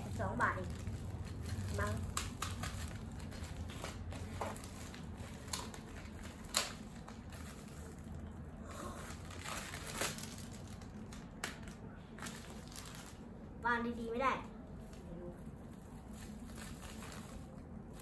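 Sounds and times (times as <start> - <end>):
plastic bag crinkling: 0.0 - 13.4, 15.5 - 18.0.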